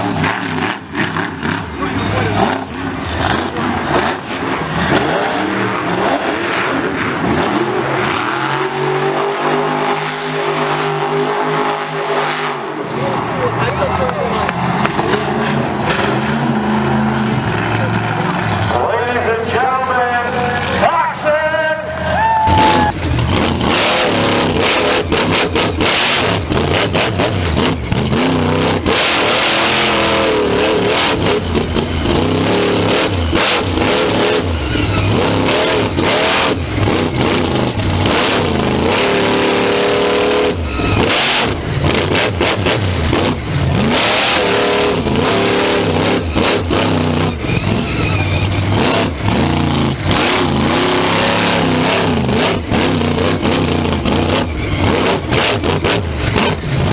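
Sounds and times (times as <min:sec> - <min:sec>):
monster truck engine revving: 0:00.0 - 0:56.9.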